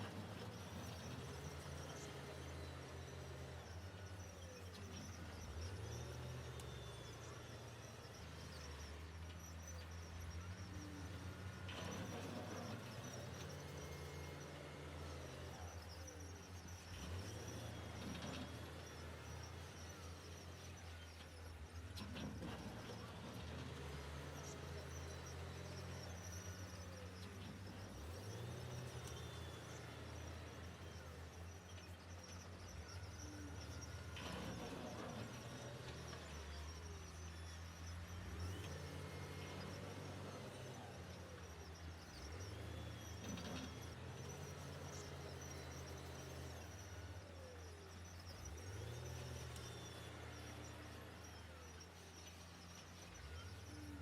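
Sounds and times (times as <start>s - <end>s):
diesel engines of heavy machinery: 0.0s - 54.0s
insects chirring: 0.0s - 54.0s.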